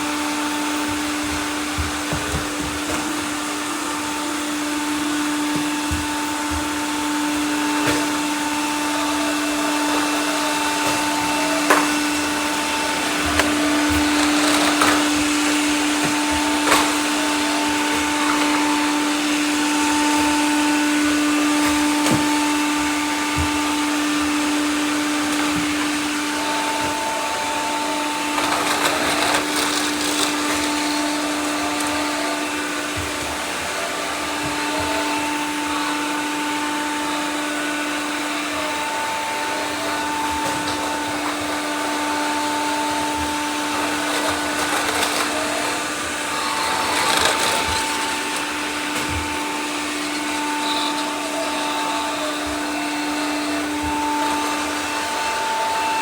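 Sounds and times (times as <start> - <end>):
robot vacuums humming: 0.0 - 56.0.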